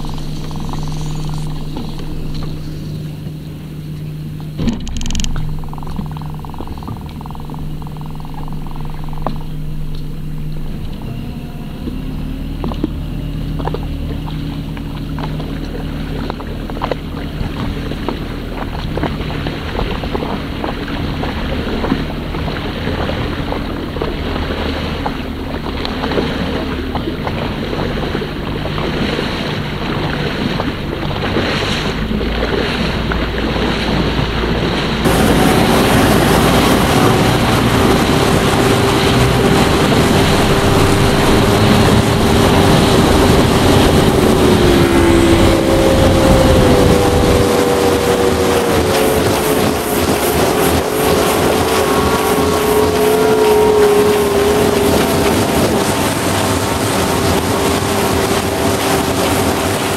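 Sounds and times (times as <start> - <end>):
engine whine: 0.0 - 59.9
motorboat engine running: 0.0 - 59.9
water rushing past hull: 0.0 - 59.9
wind on microphone: 0.0 - 59.9.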